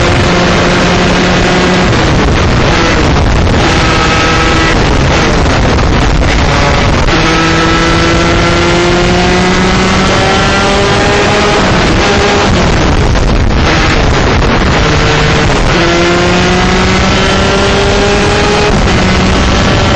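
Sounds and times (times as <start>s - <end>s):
kart engine running hard: 0.0s - 19.9s
wind on microphone: 0.0s - 19.9s.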